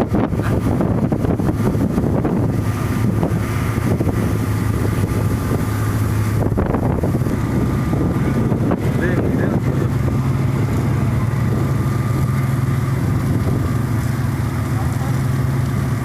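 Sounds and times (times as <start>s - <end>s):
low machinery hum: 0.0s - 16.0s
water jet rushing: 0.0s - 16.0s
wind buffeting microphone: 0.0s - 16.0s.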